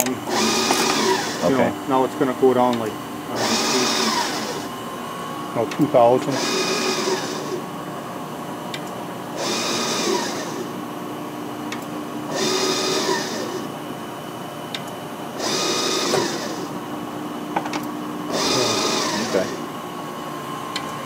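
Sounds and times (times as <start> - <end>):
grinder table traversing hum: 0.0 - 21.0.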